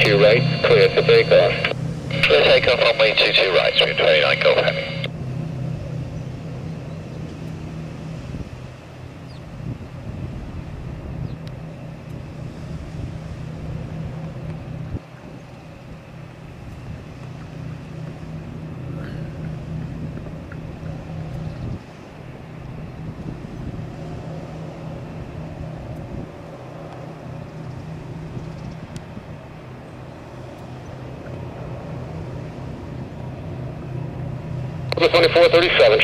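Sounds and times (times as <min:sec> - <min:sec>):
jet engines rumbling at takeoff: 0:00.0 - 0:36.0.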